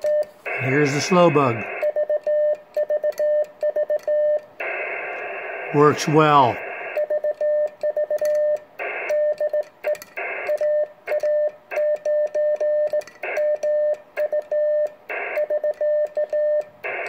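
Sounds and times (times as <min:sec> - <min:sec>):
morse code sidetone: 0:00.0 - 0:17.0.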